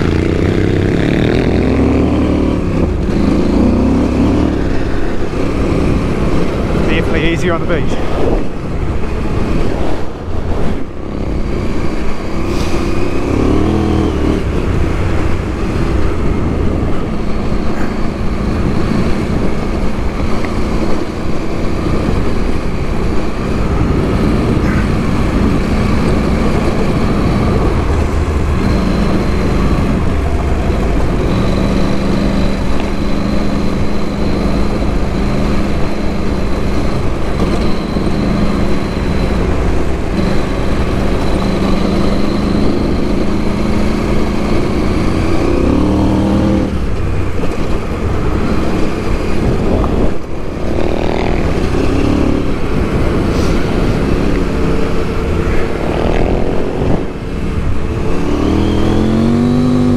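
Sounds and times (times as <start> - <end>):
motorcycle engine running: 0.0 - 7.8, 13.1 - 59.9.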